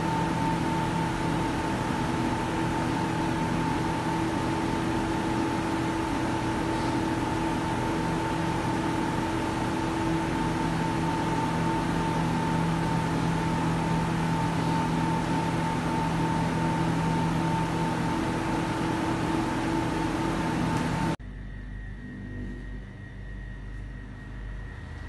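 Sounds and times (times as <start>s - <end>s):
kitchen machinery hum: 0.0s - 25.0s
low hum: 0.0s - 25.0s.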